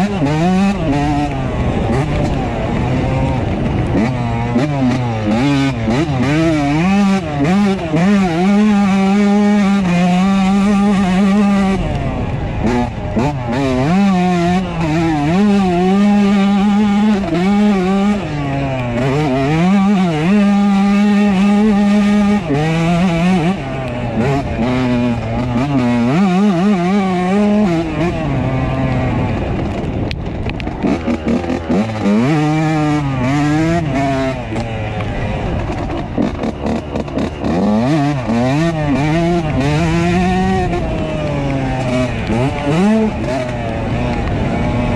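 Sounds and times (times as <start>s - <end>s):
two-stroke motorcycle engine revving: 0.0s - 44.9s.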